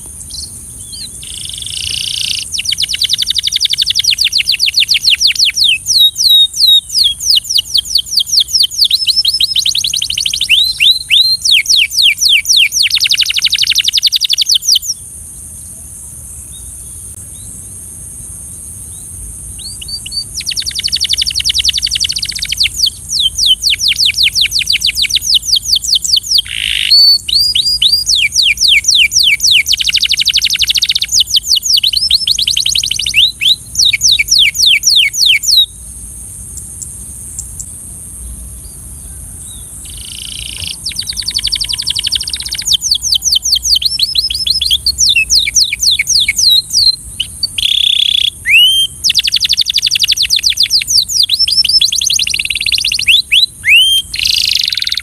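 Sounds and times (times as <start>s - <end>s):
canary singing trills: 0.0s - 15.1s, 18.9s - 35.8s, 39.4s - 55.0s.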